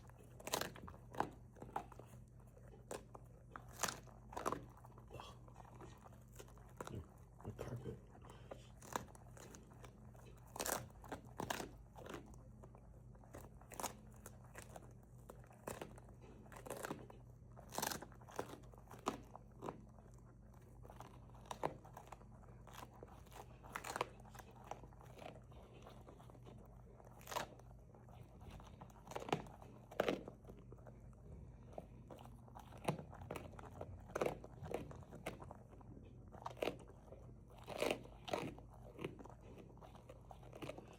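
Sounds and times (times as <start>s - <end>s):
dog crunching bones: 0.0s - 40.9s
dog gnawing: 0.0s - 40.9s.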